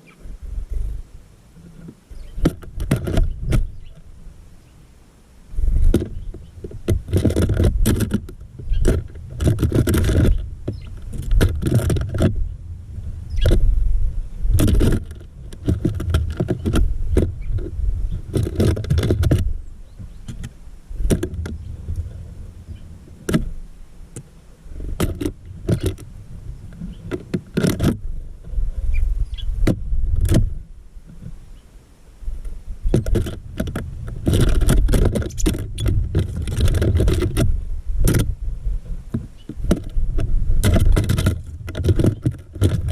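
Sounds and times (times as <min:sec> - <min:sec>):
low bumps and rumbling: 0:05.5 - 0:23.7, 0:24.7 - 0:31.4, 0:32.3 - 0:42.9.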